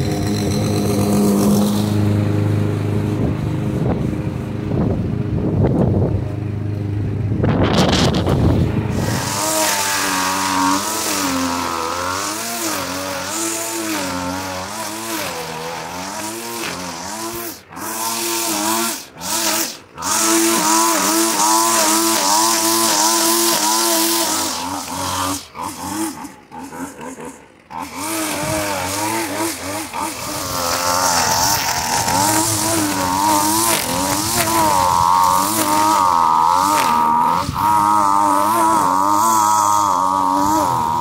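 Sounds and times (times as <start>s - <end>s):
push mower engine: 0.0s - 41.0s
string trimmer engine running: 0.0s - 41.0s.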